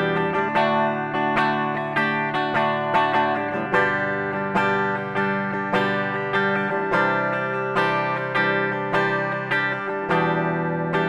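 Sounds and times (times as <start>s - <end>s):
clean electric guitar chords: 0.0s - 11.0s.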